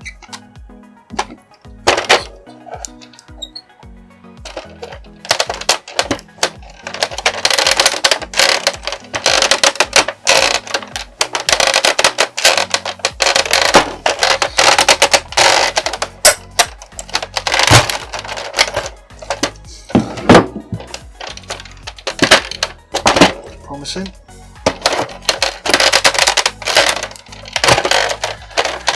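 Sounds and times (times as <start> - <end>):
plastic parts clicking and rattling: 0.0 - 0.5, 1.1 - 3.7, 4.4 - 28.9
background music with bass line: 0.0 - 28.9.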